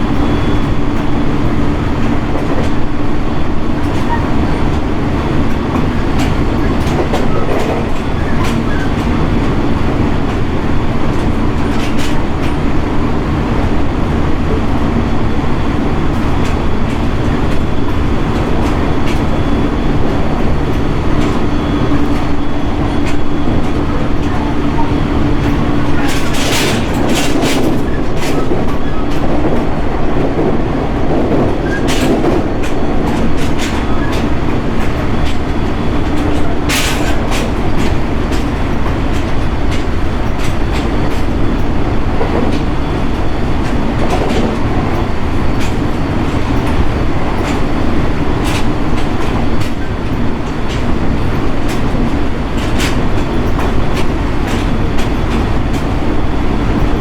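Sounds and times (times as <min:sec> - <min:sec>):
rail clack: 0:00.0 - 0:57.0
train wheels rumbling on rail: 0:00.0 - 0:57.0.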